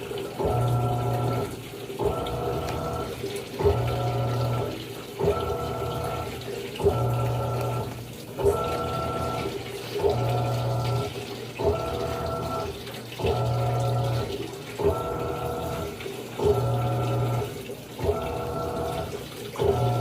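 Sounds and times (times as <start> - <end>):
washing machine agitating: 0.0 - 20.0
water sloshing: 0.0 - 20.0.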